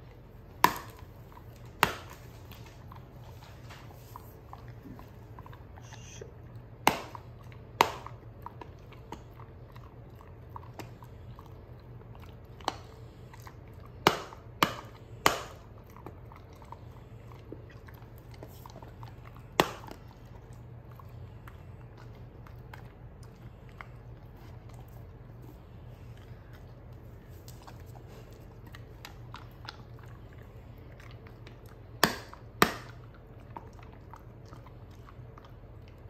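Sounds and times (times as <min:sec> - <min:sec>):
dog chewing: 0:00.0 - 0:36.0.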